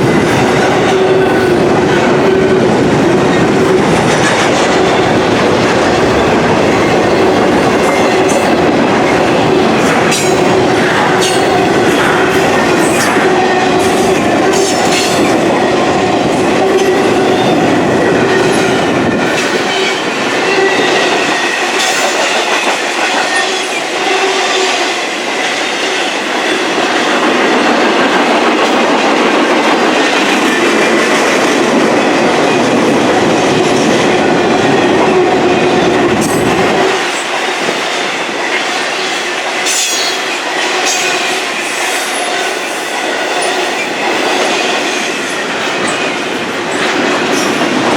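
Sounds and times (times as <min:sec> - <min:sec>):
freight cars clattering on rails: 0:00.0 - 0:47.9.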